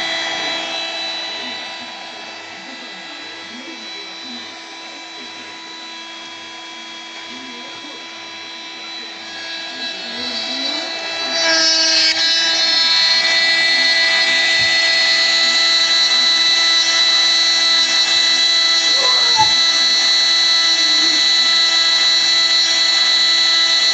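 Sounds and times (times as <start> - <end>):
milling machine motor whine: 0.0 - 23.9.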